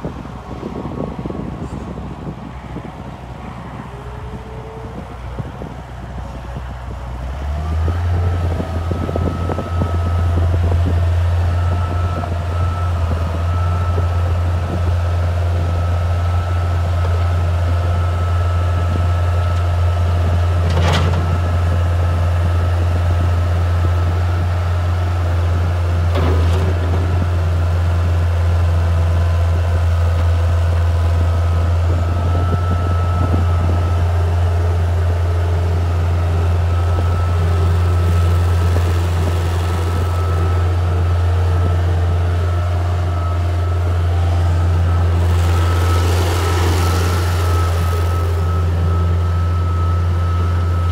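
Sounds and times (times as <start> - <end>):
loader engine droning: 0.0 - 50.9.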